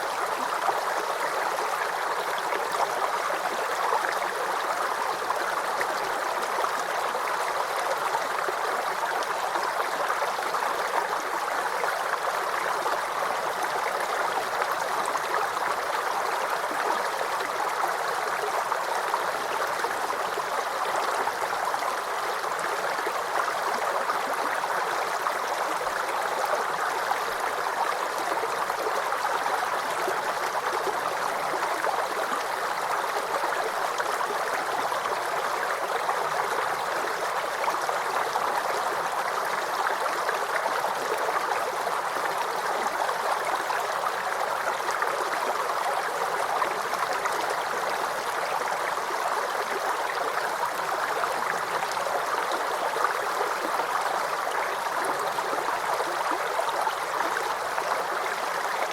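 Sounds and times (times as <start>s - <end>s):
stream babbling over stones: 0.0s - 58.9s.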